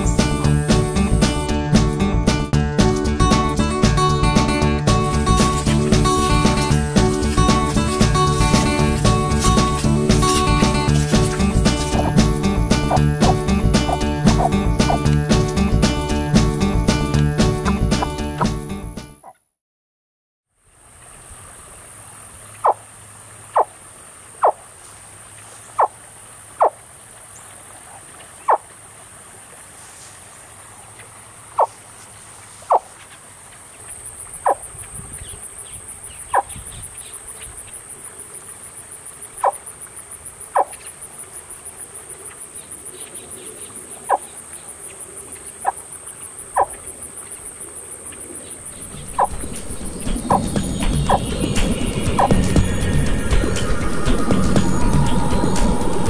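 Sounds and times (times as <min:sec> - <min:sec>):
insects buzzing: 0:00.0 - 0:02.0, 0:02.9 - 0:19.2, 0:20.9 - 0:56.0.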